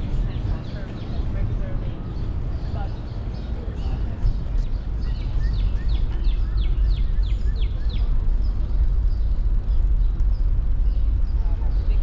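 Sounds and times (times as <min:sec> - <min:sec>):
songbird singing: 0:00.0 - 0:12.0
steady low rumble: 0:00.0 - 0:12.0.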